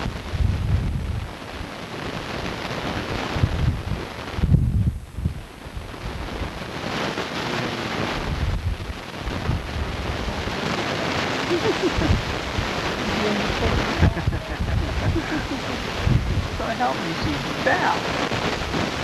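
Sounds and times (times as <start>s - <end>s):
wind buffeting microphone: 0.0s - 7.0s, 8.1s - 19.0s.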